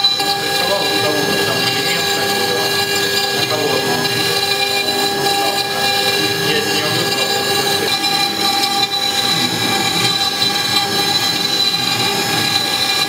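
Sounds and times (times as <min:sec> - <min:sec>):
router spindle whining: 0:00.0 - 0:13.0
stone grinding: 0:00.0 - 0:13.0.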